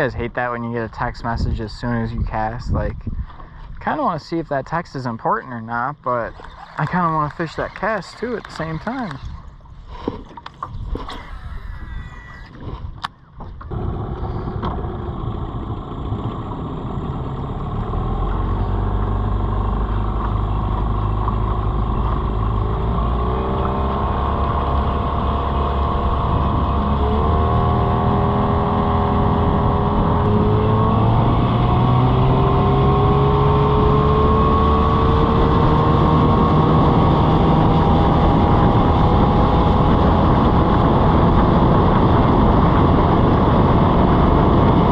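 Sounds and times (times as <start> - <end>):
small boat motor running: 6.3 - 12.7, 13.3 - 44.9.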